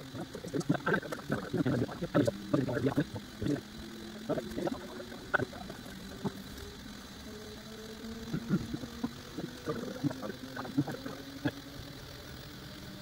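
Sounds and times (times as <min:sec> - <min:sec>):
printer stepper motors humming: 0:00.0 - 0:13.0.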